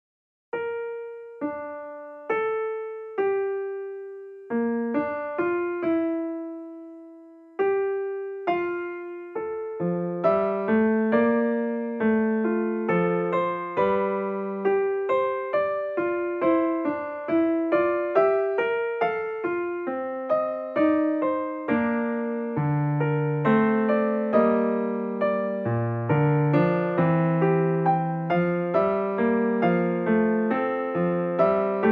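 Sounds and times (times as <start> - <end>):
gentle keyboard tune: 0.5 - 31.9.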